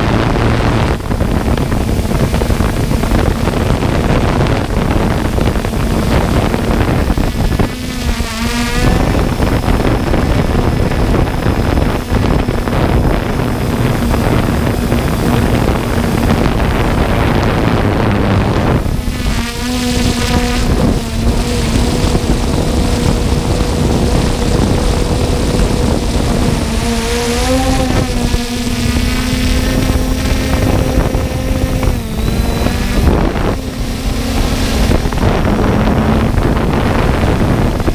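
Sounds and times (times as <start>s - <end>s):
drone motors humming: 0.0s - 37.9s
wind rush on microphone: 0.0s - 37.9s.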